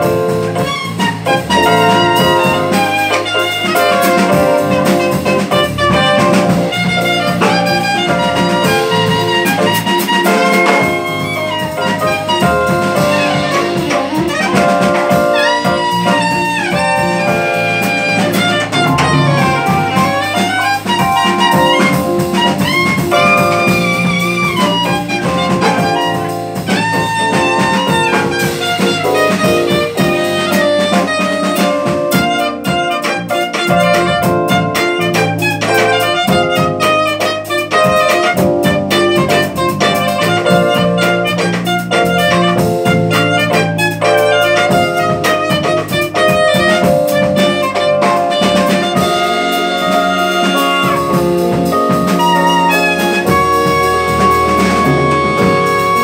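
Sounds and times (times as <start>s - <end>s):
drum kit with cymbals: 0.0s - 56.0s
electric bass: 0.0s - 56.0s
piano chords: 0.0s - 56.0s
soprano saxophone melody: 0.5s - 56.0s.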